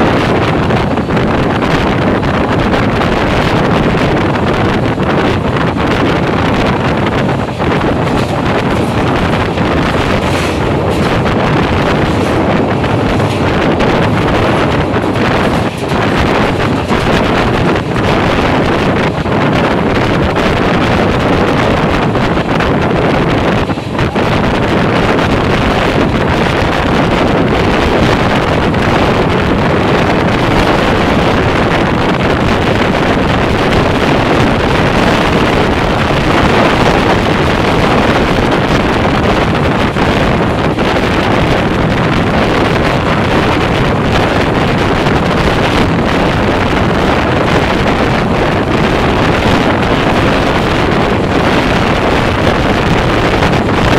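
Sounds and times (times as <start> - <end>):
train running on rails: 0.0 - 53.9
wind rushing over microphone: 0.0 - 53.9.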